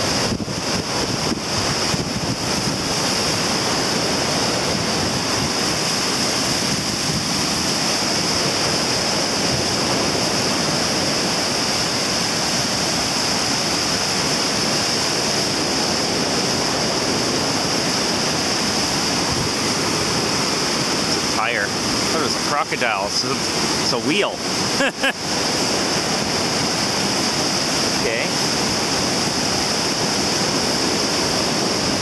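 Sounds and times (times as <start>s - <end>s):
surf: 0.0s - 32.0s
water rushing: 0.0s - 32.0s.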